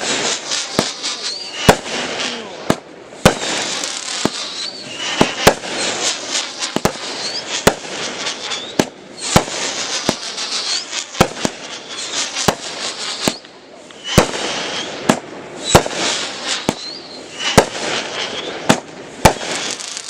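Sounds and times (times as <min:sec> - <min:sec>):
firework crackling hiss: 0:00.0 - 0:20.0
firework reports: 0:00.0 - 0:20.0
firework whistles: 0:00.0 - 0:20.0.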